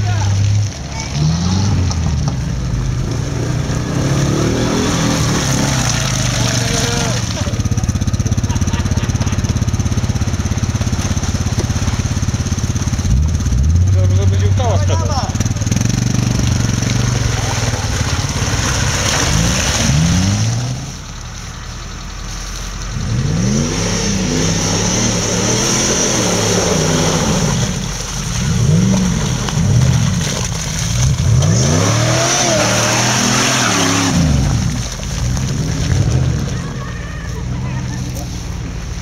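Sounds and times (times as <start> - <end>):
off-road engine revving: 0.0 - 39.0.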